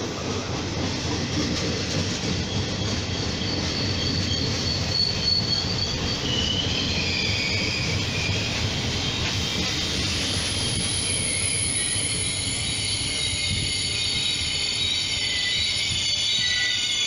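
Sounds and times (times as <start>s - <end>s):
train coaches rumbling on rails: 0.0s - 17.0s
train wheels squealing: 0.4s - 17.0s.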